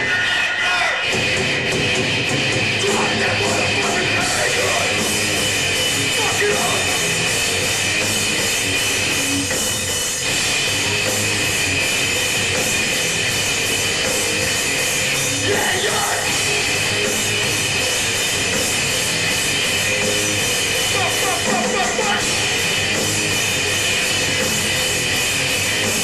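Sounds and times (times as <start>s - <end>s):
heavy metal band playing live: 0.0s - 26.0s
drum kit beat: 1.0s - 26.0s.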